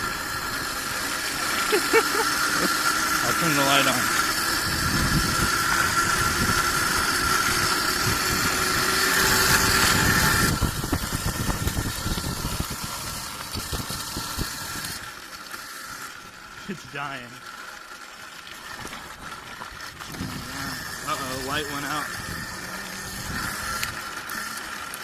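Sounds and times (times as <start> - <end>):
chain drive and tyres rattling: 0.0 - 25.0
electric motor whine: 0.0 - 25.0.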